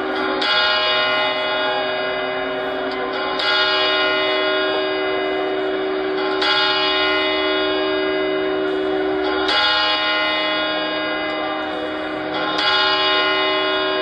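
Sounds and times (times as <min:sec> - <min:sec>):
ringing bell chords: 0:00.0 - 0:14.0.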